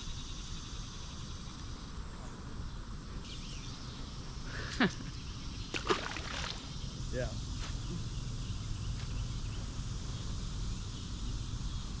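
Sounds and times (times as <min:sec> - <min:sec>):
crickets chirping: 0:00.0 - 0:12.0
outdoor background hiss: 0:00.0 - 0:12.0.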